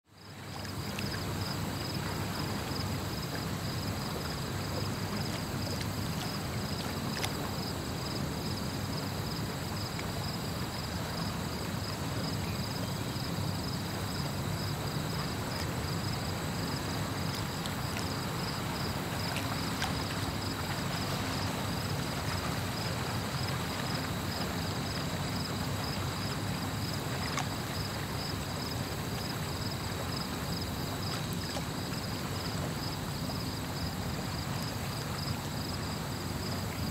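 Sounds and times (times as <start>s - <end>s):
water lapping around a canoe: 0.1s - 36.9s.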